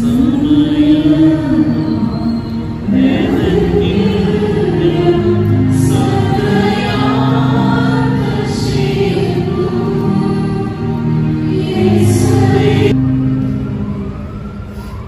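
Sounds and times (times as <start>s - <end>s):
choir singing a hymn: 0.0s - 13.2s.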